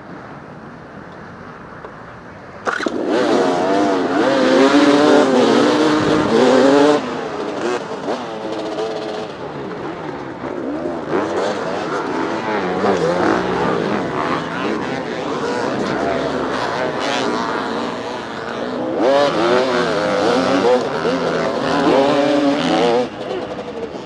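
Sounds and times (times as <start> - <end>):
dirt bike engines revving: 2.6 - 24.0.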